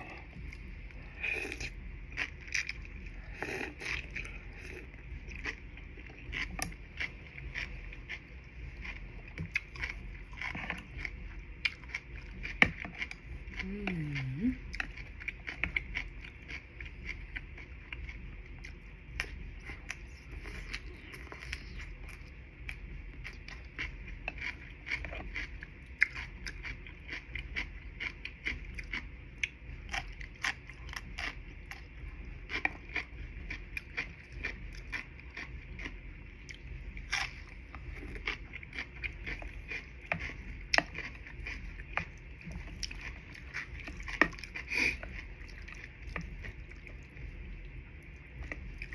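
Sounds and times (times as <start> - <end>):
person chewing food: 0.0 - 48.9
steady low hum: 0.0 - 48.9.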